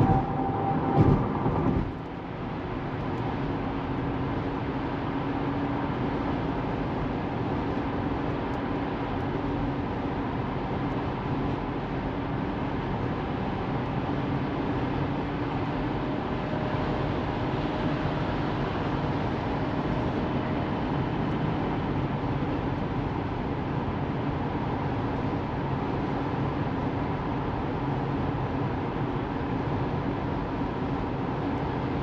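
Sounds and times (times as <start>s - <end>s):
car road and tyre noise: 0.0s - 32.0s.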